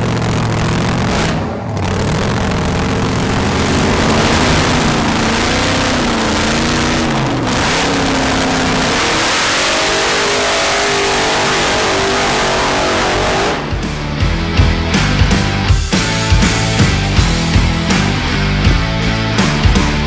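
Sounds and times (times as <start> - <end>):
drag racing engine revving: 0.0 - 18.1
rock music: 0.0 - 20.0.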